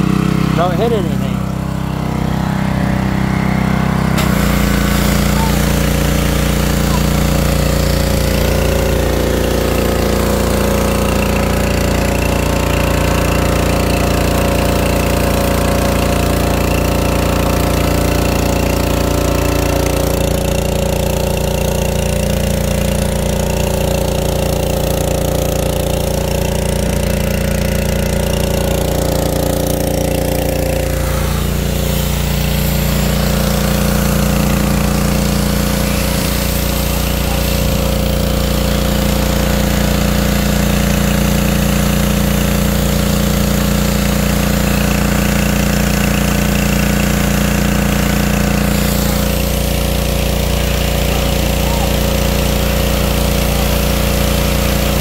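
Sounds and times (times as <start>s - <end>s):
pressure washer running: 0.0s - 55.0s
water spray hissing on car: 0.0s - 55.0s.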